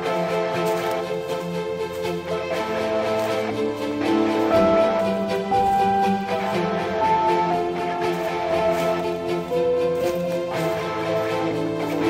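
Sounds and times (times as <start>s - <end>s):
sustained background chords: 0.0s - 12.0s.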